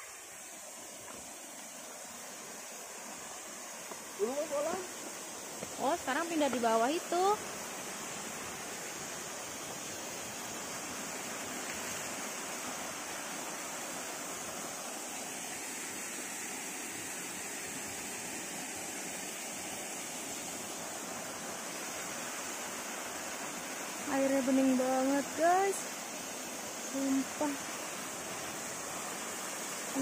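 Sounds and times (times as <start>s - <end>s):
running stream water: 0.0s - 30.0s.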